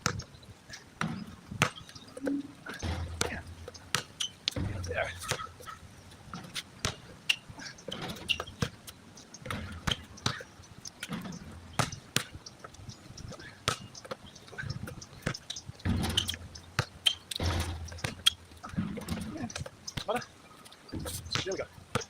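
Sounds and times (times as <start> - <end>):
basketball bouncing: 0.0 - 0.3, 1.0 - 2.0, 2.7 - 20.2, 21.0 - 22.0.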